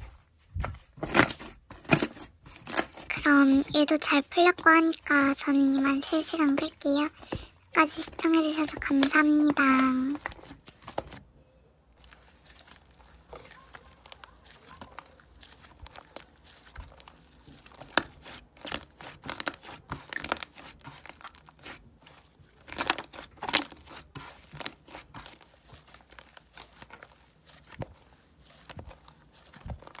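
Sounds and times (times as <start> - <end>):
slime squishing and crackling: 2.4 - 11.2, 12.0 - 30.0.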